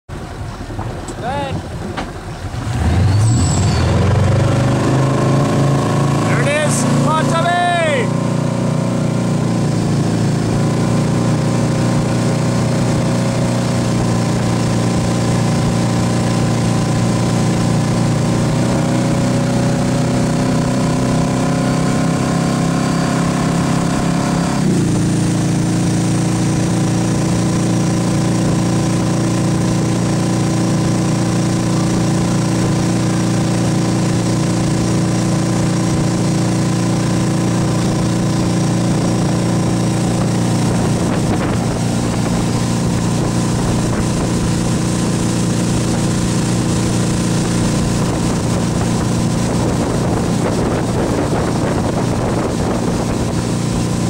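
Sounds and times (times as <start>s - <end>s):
boat engine running under load: 0.1s - 54.0s
rush of wind and wake water: 0.1s - 54.0s.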